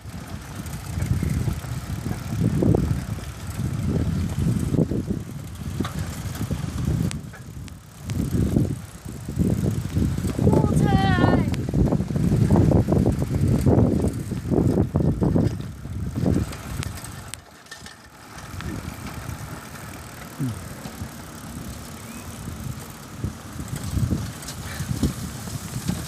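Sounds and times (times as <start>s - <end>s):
wind buffeting microphone: 0.0s - 17.4s, 18.3s - 26.0s
road noise hiss: 0.0s - 26.0s.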